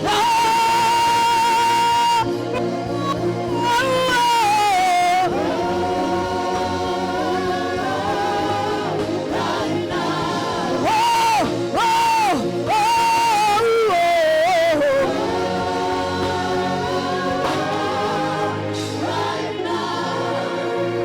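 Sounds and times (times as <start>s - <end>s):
voice holding long notes: 0.0s - 17.4s
gospel singing: 0.0s - 21.0s.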